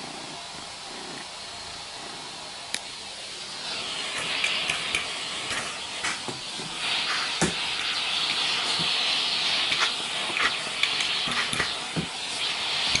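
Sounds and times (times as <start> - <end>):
vacuum cleaner suction hiss: 0.0 - 13.0.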